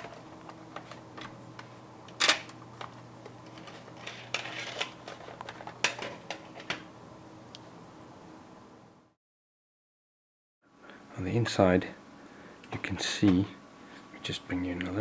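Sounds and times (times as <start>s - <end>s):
faint steady hum: 0.0s - 9.2s, 10.6s - 15.0s.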